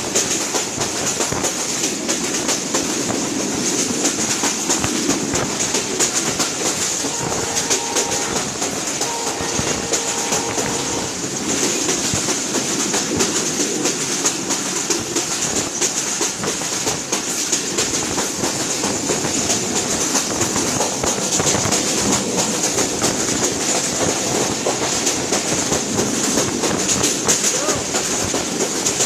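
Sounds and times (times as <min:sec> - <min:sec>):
train wheels clattering on rails: 0:00.0 - 0:29.0.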